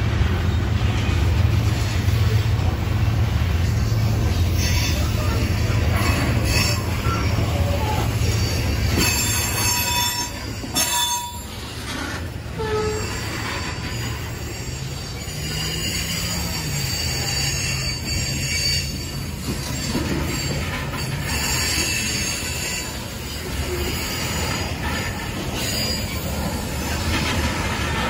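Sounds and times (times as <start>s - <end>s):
train low rumble: 0.0s - 28.0s
train wheels squealing: 3.6s - 28.0s.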